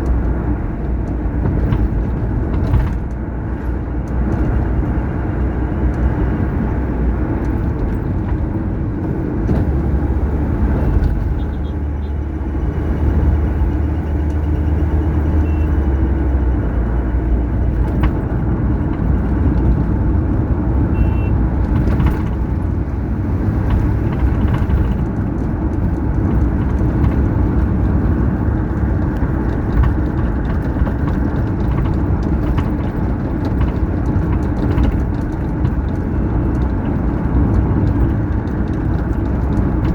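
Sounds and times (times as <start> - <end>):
car engine and tyre rumble: 0.0 - 39.9
surrounding traffic: 0.0 - 39.9.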